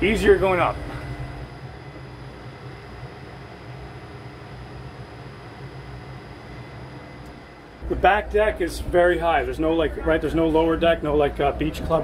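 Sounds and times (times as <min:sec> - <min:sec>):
engine-room machinery drone: 0:00.0 - 0:12.0.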